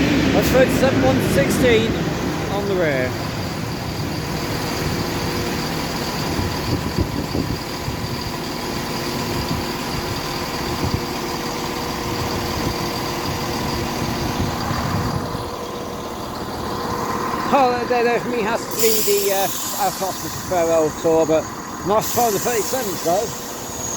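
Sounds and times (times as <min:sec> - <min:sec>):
diesel locomotive engine running: 0:00.0 - 0:23.9.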